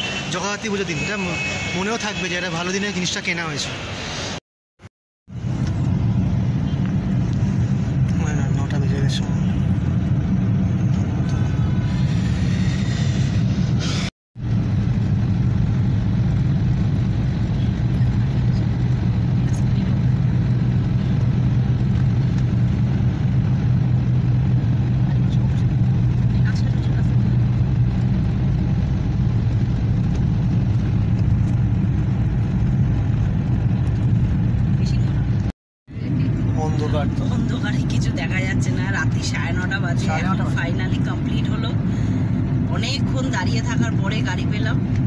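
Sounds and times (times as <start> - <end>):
traffic rumble: 0.0 - 4.4, 5.3 - 45.0.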